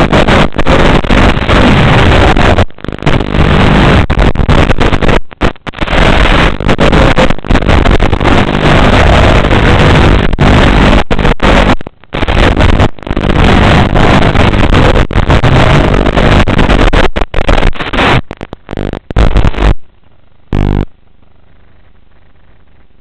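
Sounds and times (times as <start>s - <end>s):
video link static: 0.0s - 23.0s.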